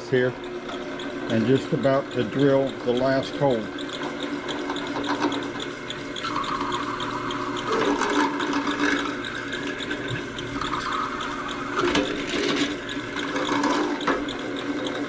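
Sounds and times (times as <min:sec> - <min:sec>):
drill bit boring through plastic pipe: 0:00.0 - 0:15.0
drill press humming: 0:00.0 - 0:15.0.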